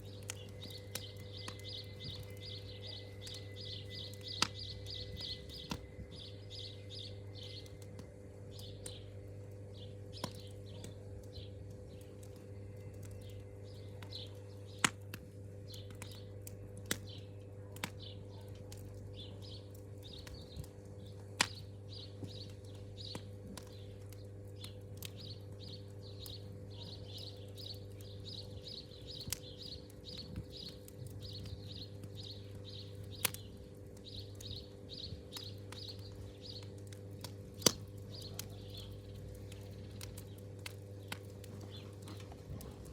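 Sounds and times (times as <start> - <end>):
campfire crackling and popping: 0.0 - 42.9
steady low hum: 0.0 - 42.9.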